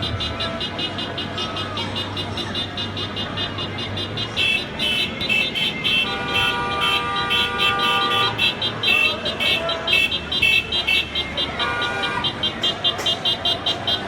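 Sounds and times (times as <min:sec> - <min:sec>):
car horn beeping: 0:00.0 - 0:14.0
long car horn blast: 0:00.0 - 0:14.0
traffic noise: 0:00.0 - 0:14.0.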